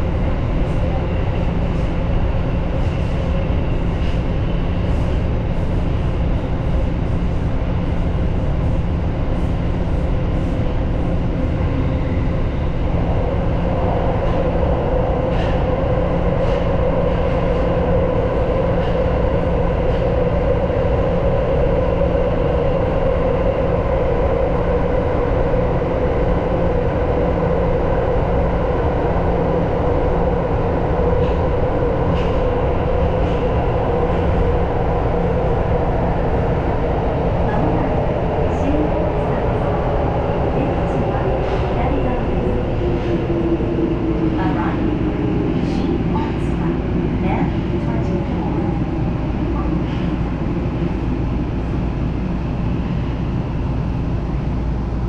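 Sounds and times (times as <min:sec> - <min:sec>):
subway train wheels rumbling: 0:00.0 - 0:55.0
train hum: 0:00.0 - 0:55.0.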